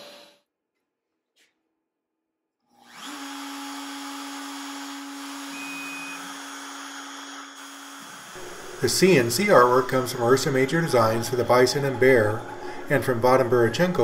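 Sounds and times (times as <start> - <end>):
router spindle whining: 2.7 - 14.0.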